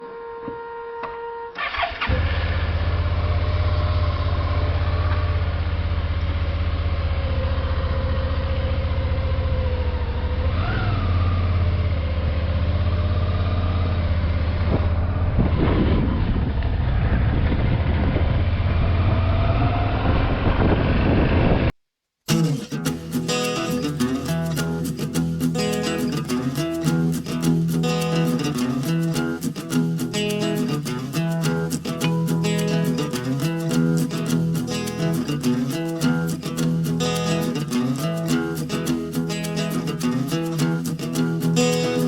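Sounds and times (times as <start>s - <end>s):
motorcycle engine running: 1.6s - 21.7s, 22.4s - 42.0s.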